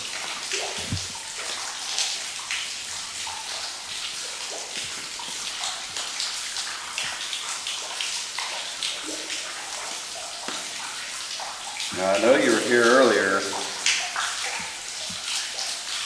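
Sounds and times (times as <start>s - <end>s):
water dripping and splashing: 0.0s - 16.0s.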